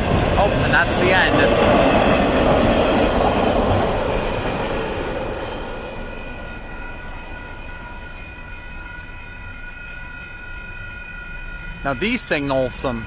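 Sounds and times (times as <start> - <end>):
crossing warning bells ringing: 0.0 - 13.0
freight train rumble: 0.0 - 13.0.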